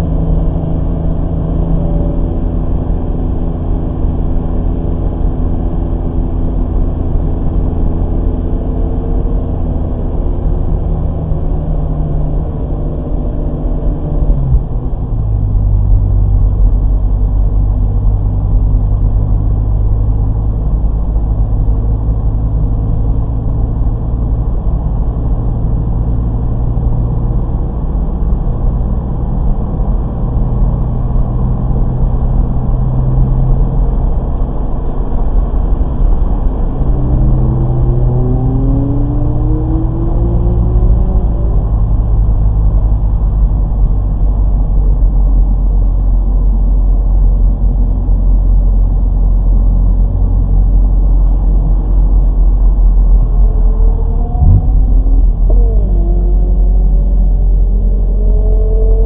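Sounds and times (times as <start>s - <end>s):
car engine running hard: 0.0s - 59.0s
road and wind noise: 0.0s - 59.0s.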